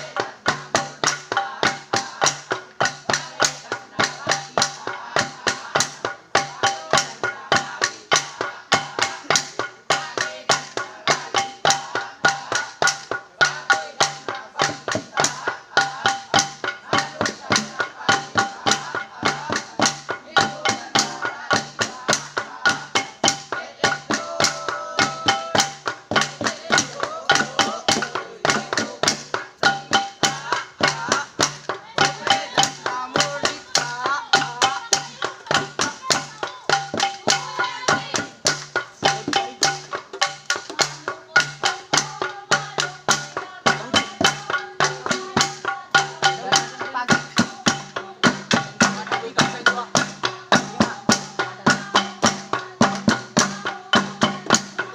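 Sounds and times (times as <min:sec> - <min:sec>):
gong ensemble beaten rhythmically: 0:00.0 - 0:54.9
voices: 0:00.0 - 0:54.9.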